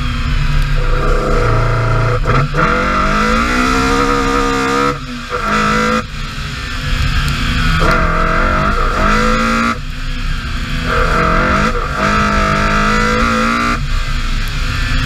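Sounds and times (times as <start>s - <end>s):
low rumble: 0.0s - 15.0s
rally car engine at full throttle: 0.0s - 15.0s.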